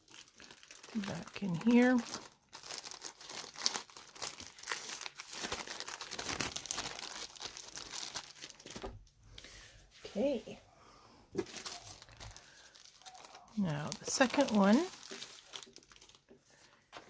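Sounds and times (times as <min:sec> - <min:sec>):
plastic packaging crinkling: 0:00.0 - 0:09.0, 0:11.4 - 0:17.0.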